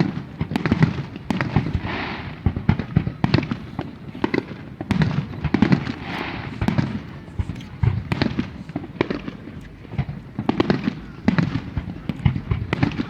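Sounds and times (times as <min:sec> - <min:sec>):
fireworks bangs and booms: 0:00.0 - 0:13.0
fireworks hissing: 0:00.0 - 0:13.0.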